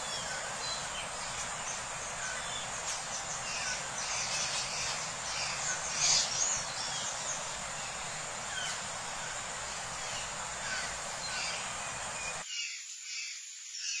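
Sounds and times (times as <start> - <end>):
birds chirping: 0.0 - 12.8
background hiss: 0.0 - 14.0.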